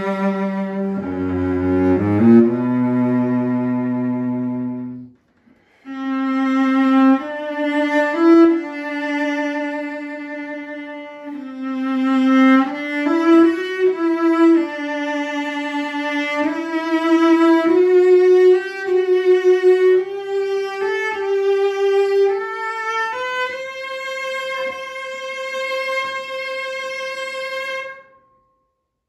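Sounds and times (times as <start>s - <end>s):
solo cello bowed: 0.0s - 28.2s.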